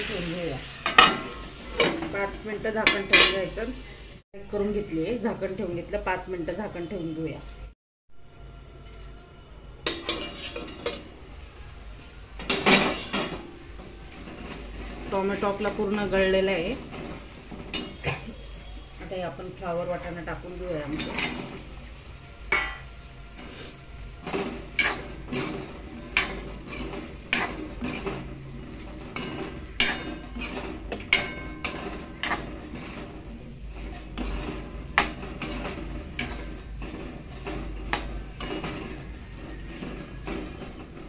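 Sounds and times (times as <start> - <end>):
metal spoon scraping a metal pan: 0.0 - 3.7, 9.8 - 11.2, 12.4 - 41.0.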